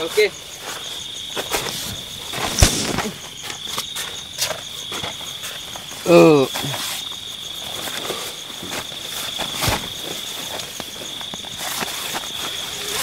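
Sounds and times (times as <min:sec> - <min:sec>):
insects trilling: 0:00.0 - 0:13.0
rustles and clicks: 0:00.0 - 0:13.0.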